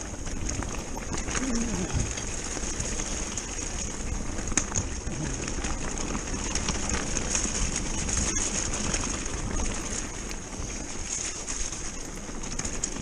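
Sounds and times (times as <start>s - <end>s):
bike rattling: 0.0s - 13.0s
tyres crunching over gravel: 0.0s - 13.0s
wind buffeting microphone: 0.0s - 13.0s.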